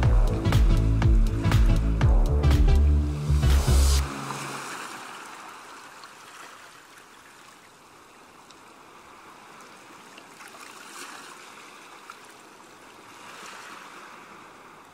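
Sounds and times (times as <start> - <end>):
sea waves washing: 0.0 - 12.1.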